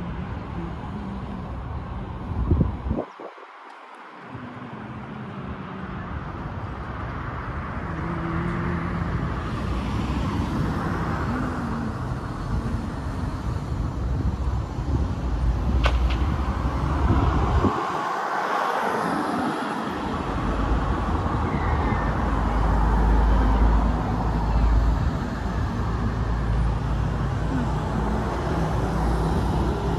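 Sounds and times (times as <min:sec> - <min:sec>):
wind on microphone: 0:00.0 - 0:03.6, 0:04.2 - 0:29.9
road traffic: 0:00.0 - 0:29.9.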